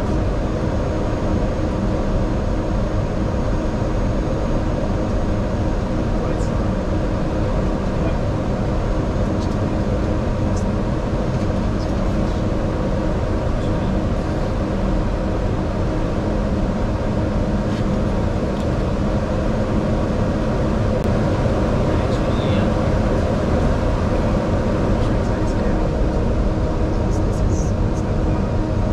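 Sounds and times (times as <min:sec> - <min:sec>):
rushing hum of idling engines: 0:00.0 - 0:28.9.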